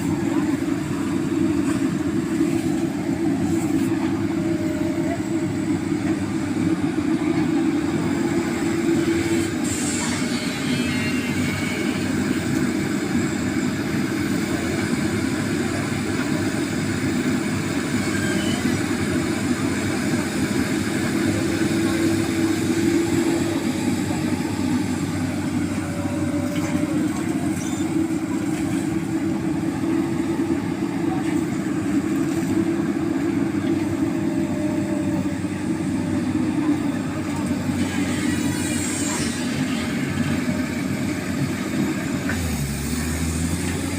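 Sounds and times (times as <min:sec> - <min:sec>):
excavator diesel engine droning: 0:00.0 - 0:43.9.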